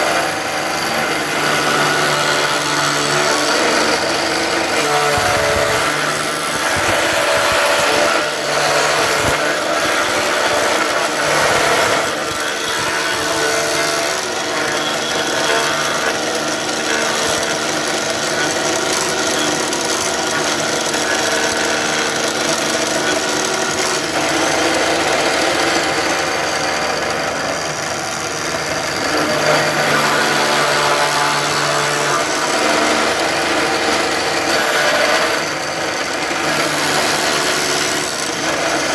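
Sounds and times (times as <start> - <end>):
rotary cutter milling wood: 0.0 - 38.9.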